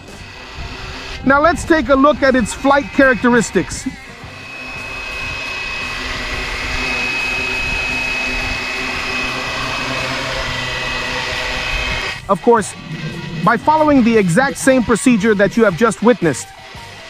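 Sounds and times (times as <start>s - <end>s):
electric motor whine: 0.0s - 17.0s
helicopter rotors rushing: 0.0s - 17.0s.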